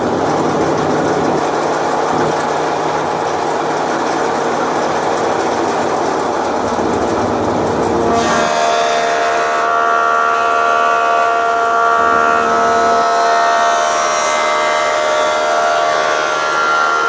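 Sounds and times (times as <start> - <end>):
planer machine whining: 0.0 - 17.0.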